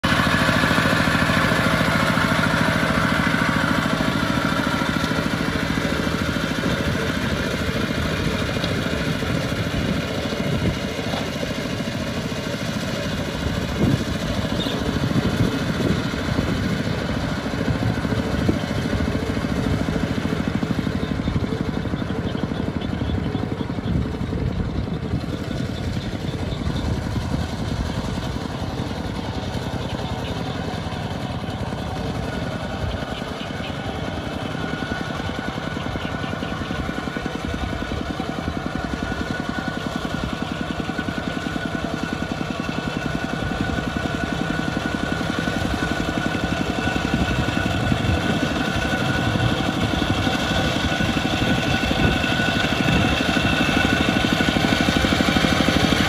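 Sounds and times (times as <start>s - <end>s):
diesel walking tractor engine running: 0.0s - 56.0s.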